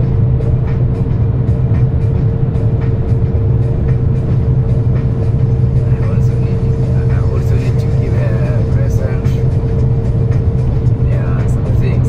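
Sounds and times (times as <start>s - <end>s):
constant hum: 0.0s - 12.0s
truck engine and road drone: 0.0s - 12.0s.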